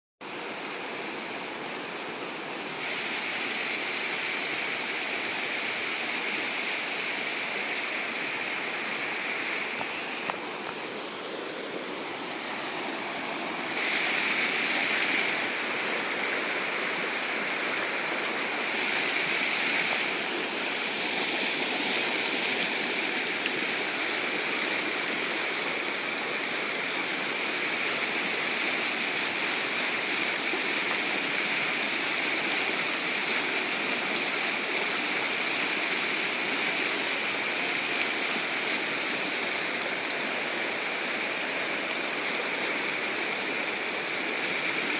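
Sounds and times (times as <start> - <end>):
floodwater rushing: 0.3 - 44.9.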